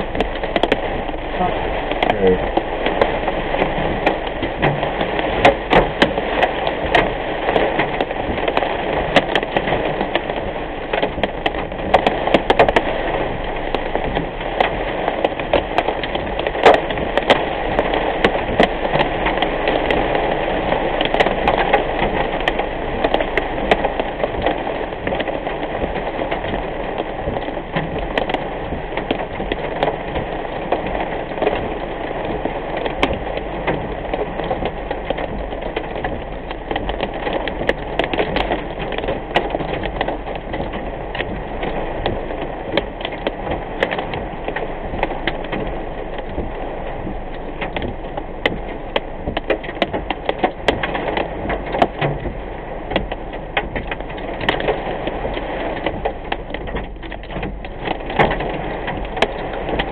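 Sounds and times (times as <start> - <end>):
heavy rain on car windshield: 0.0 - 59.9.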